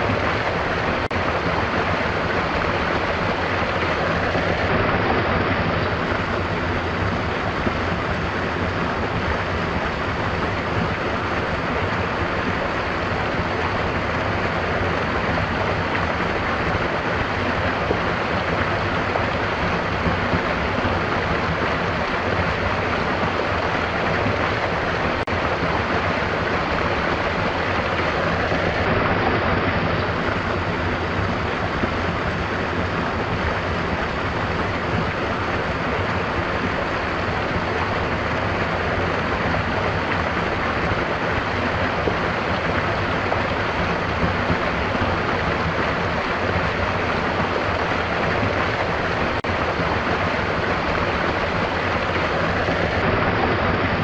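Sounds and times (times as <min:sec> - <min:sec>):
stream water babbling: 0:00.0 - 0:54.0.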